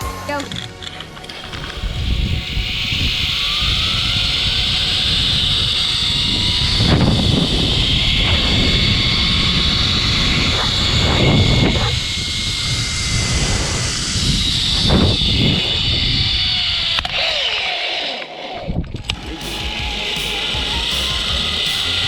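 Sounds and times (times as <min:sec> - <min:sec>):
zip line trolley whirring: 0:00.8 - 0:22.0
wind on microphone: 0:01.2 - 0:17.3, 0:18.6 - 0:22.0.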